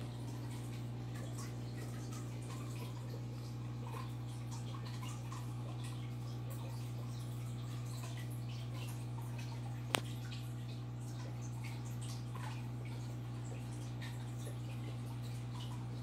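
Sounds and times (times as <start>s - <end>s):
aquarium filter humming: 0.0s - 16.0s
water trickling and dripping: 0.0s - 16.0s.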